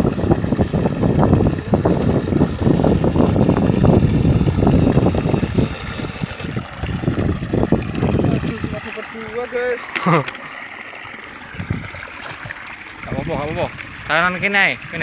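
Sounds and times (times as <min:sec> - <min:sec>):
wind buffeting microphone: 0:00.0 - 0:09.4, 0:11.4 - 0:15.0
water gushing from a pipe: 0:00.0 - 0:15.0.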